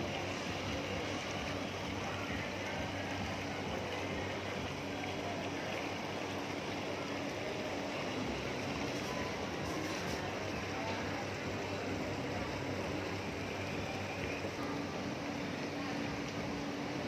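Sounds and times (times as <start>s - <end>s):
water rushing around boat: 0.0s - 17.0s.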